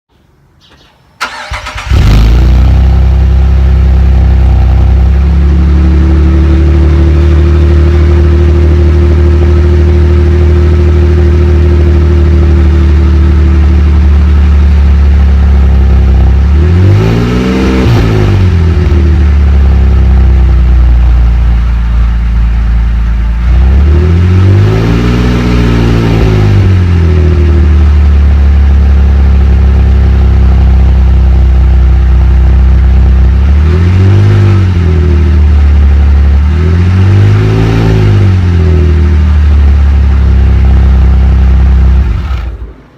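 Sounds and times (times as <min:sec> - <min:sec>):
car engine starting and revving: 0:01.2 - 0:42.9.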